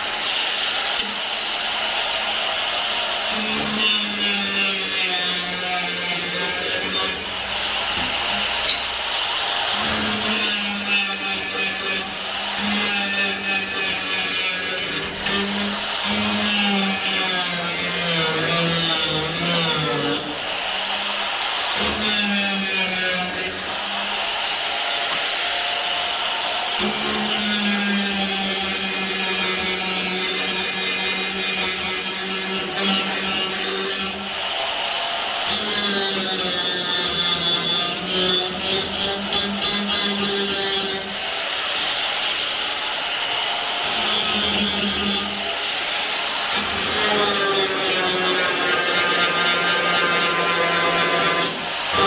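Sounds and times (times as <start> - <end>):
power tool grinding steel: 0.0 - 52.0.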